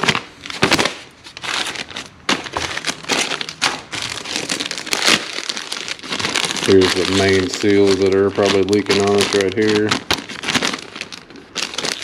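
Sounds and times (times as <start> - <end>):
paper and plastic bags crinkling: 0.0 - 12.0.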